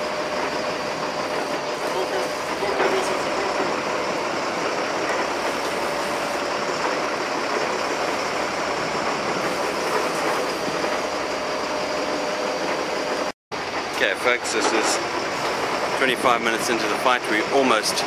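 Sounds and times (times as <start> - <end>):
boat engines droning: 0.0 - 18.0.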